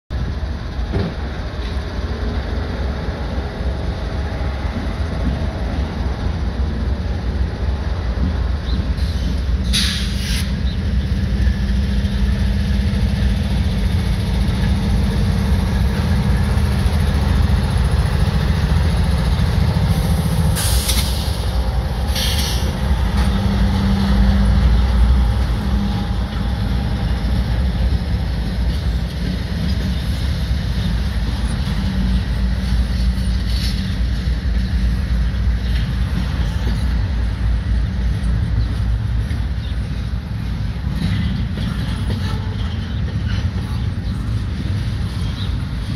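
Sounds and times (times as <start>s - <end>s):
diesel locomotive rumble: 0.1s - 45.9s
train wheels rolling: 0.2s - 45.9s.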